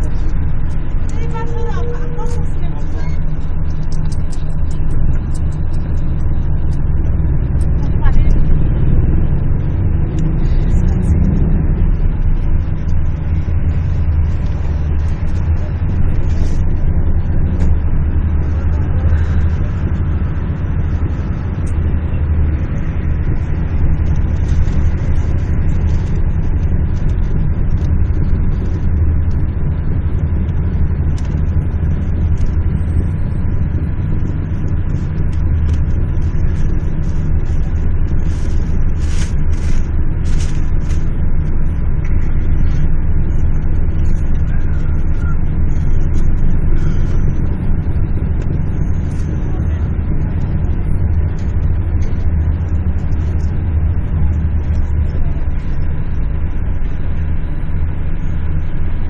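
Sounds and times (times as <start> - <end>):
engine and road rumble: 0.0 - 59.0.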